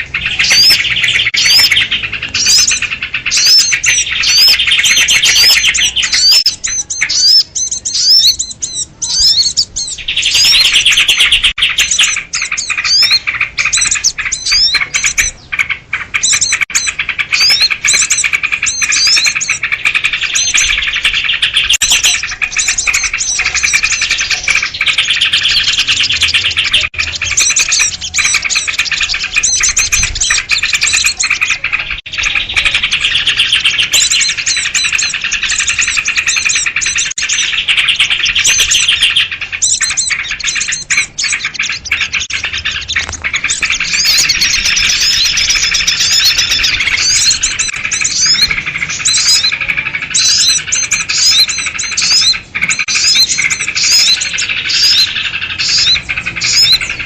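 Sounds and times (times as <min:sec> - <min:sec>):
small birds chattering and chirping: 0:00.0 - 0:57.0.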